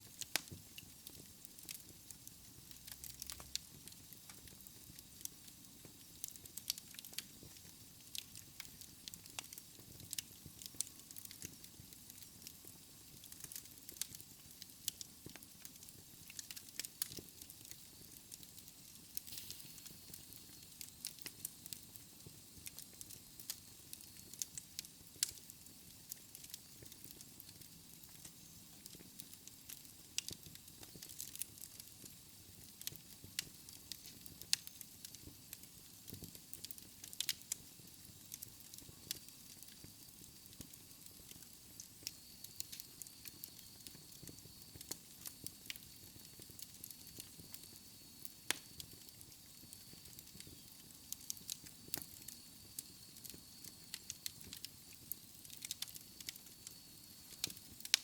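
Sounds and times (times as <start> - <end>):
wood fire crackling: 0.0 - 58.0
hiss of flames: 0.1 - 58.0.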